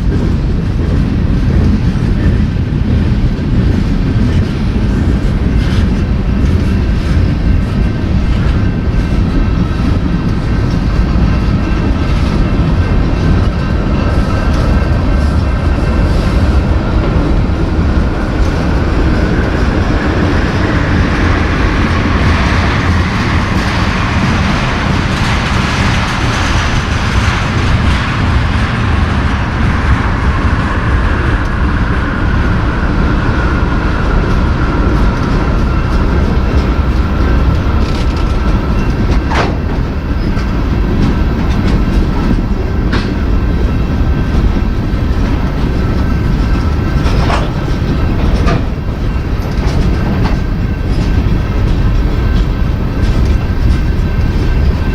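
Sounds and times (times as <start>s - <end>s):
freight train wheels clicking over rail joints: 0.0s - 54.9s.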